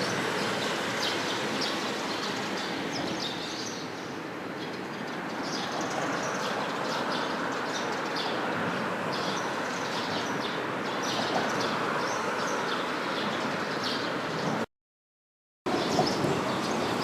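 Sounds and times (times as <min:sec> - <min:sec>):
birds chirping: 0:00.0 - 0:14.6, 0:15.7 - 0:17.0.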